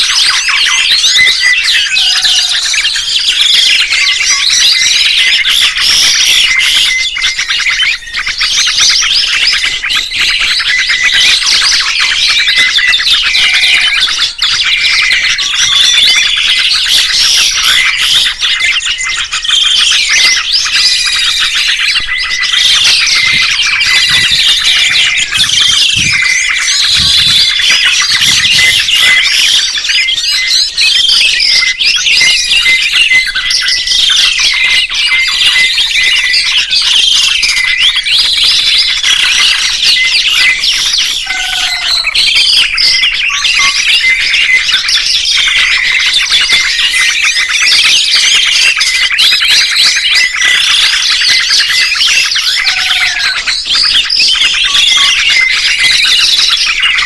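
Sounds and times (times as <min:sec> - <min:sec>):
songbirds chorus: 0:00.0 - 0:57.0.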